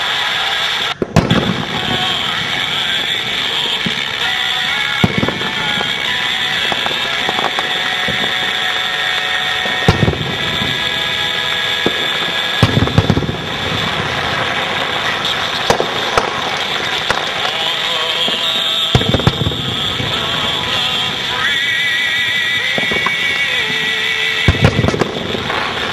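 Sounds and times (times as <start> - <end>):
fireworks shells bursting: 0.0 - 25.9.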